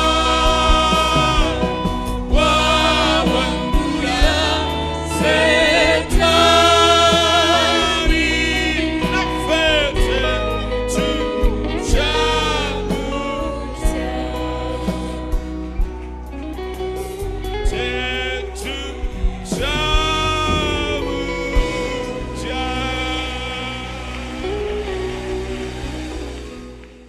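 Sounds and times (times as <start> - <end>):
person singing gospel: 0.0 - 16.2, 17.2 - 26.6
bass line: 0.0 - 27.0.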